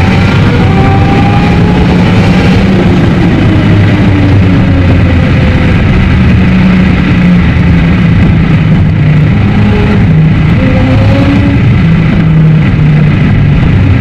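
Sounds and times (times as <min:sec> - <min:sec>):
car engine drone in cabin: 0:00.0 - 0:14.0.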